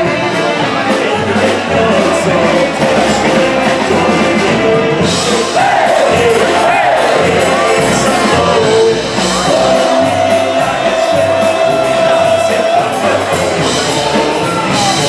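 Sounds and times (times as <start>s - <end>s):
polka band playing: 0.0s - 15.0s.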